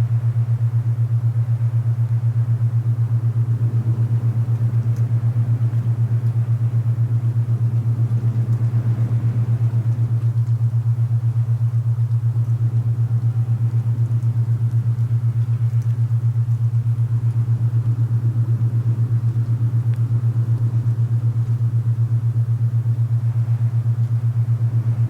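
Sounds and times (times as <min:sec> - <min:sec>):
pulsing low binaural tone: 0:00.0 - 0:25.0.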